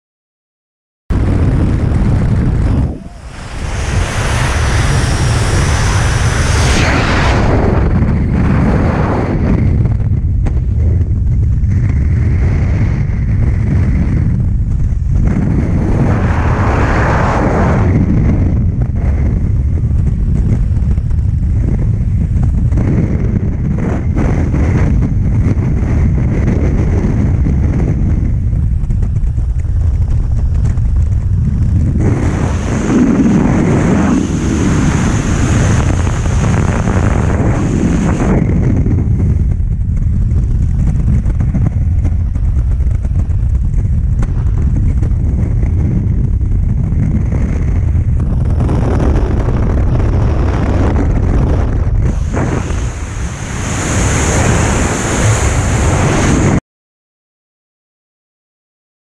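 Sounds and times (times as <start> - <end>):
wind buffeting microphone: 1.1 - 56.6.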